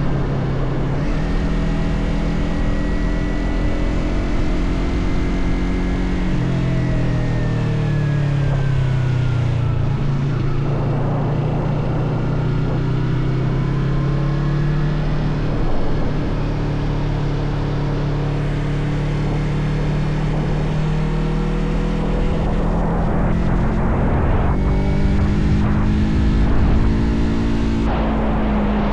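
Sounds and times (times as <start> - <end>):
motorcycle engine running: 0.0 - 28.9
wind noise: 0.0 - 28.9.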